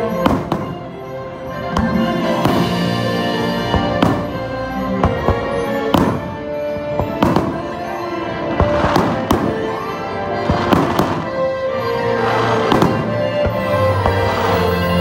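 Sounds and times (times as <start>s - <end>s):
fireworks crackling: 0.0s - 15.0s
soundtrack music: 0.0s - 15.0s
fireworks bangs: 0.1s - 0.9s, 1.7s - 7.9s, 8.5s - 11.6s, 12.2s - 14.9s.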